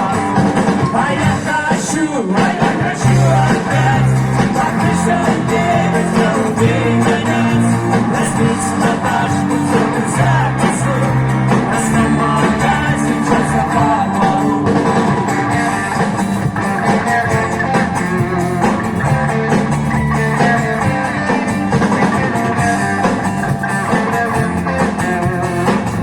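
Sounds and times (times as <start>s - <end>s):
live rock band music: 0.0s - 26.0s.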